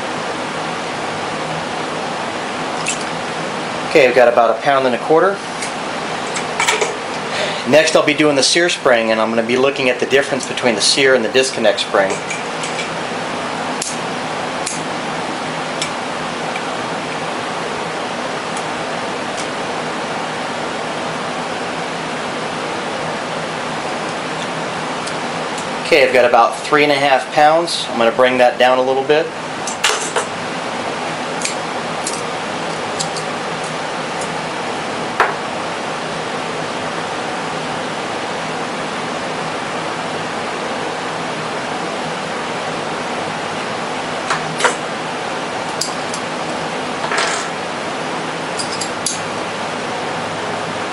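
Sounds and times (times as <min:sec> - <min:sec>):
room noise hiss: 0:00.0 - 0:50.9.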